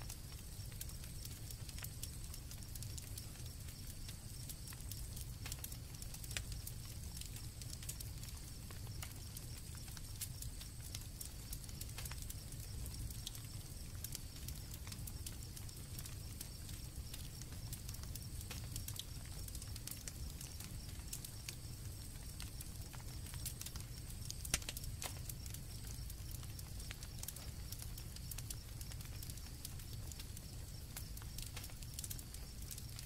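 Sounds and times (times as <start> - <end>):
campfire crackling and popping: 0.0 - 33.0
crickets chirping: 0.0 - 33.0.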